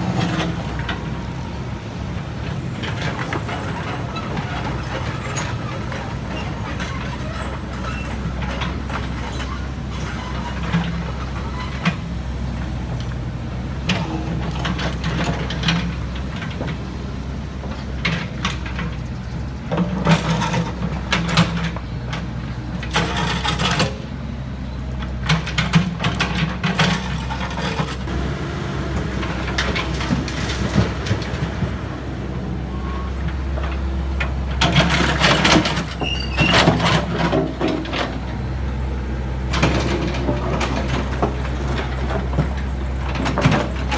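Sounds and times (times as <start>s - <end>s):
heavy vehicle engine running: 0.0s - 43.9s.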